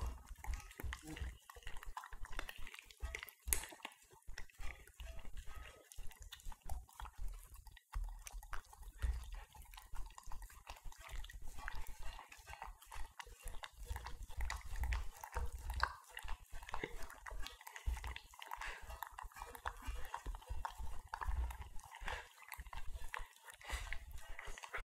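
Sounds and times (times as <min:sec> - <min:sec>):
dogs licking metal bowls: 0:00.0 - 0:24.8.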